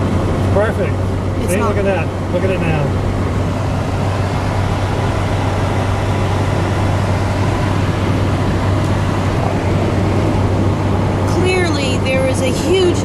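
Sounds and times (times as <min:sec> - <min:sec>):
road and engine noise in car cabin: 0:00.0 - 0:13.0.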